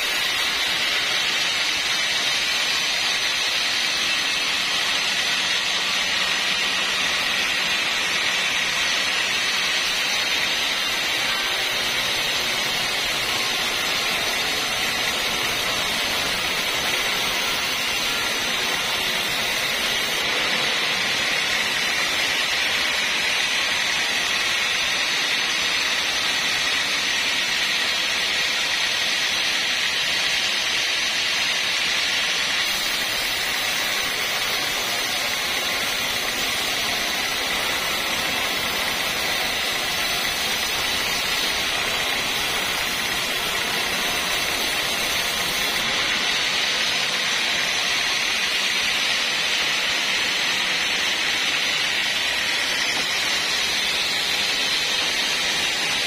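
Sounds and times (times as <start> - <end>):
band saw whining through log: 0.0 - 56.0.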